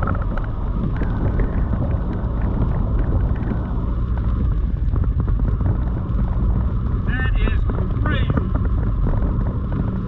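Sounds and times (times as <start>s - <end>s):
heavy rain hitting a vehicle: 0.0s - 10.0s
road and wind noise: 0.0s - 10.0s.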